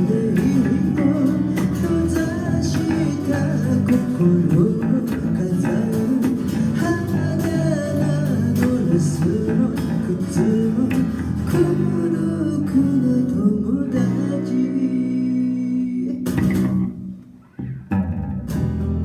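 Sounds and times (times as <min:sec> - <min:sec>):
bass guitar line: 0:00.0 - 0:19.0
guitars: 0:00.0 - 0:19.0.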